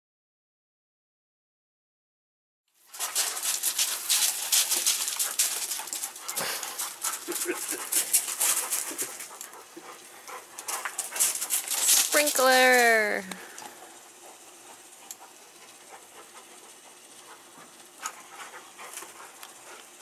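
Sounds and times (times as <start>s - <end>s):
lawn sprinkler spray hissing: 2.8s - 20.0s
dogs panting: 2.9s - 20.0s.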